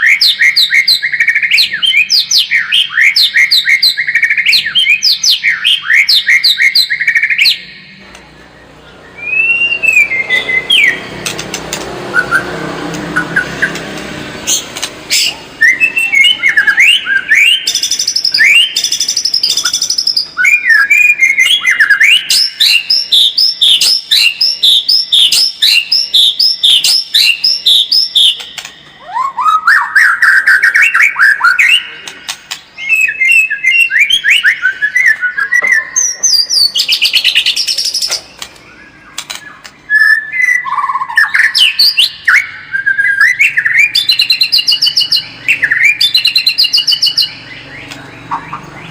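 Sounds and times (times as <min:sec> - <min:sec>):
songbird whistled song: 0:00.0 - 0:48.9.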